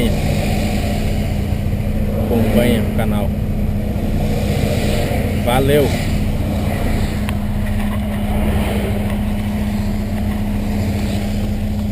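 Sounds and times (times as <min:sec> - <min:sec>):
car engine droning: 0:00.0 - 0:11.9.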